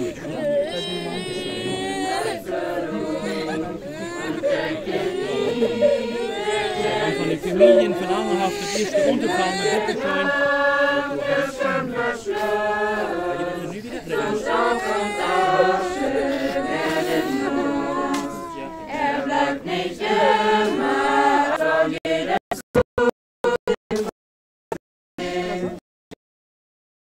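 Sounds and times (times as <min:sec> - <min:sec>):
group singing without instruments: 0:00.0 - 0:22.4, 0:25.2 - 0:25.8.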